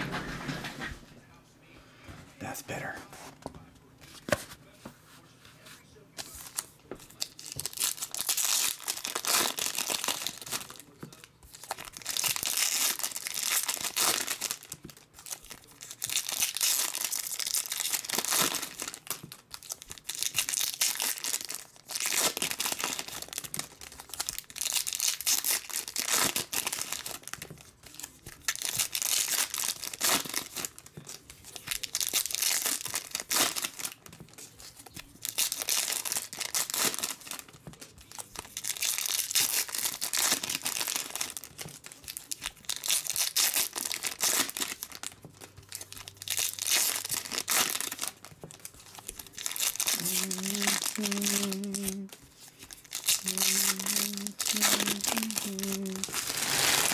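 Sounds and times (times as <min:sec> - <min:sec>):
foil wrappers tearing and crinkling: 0:06.2 - 0:56.9.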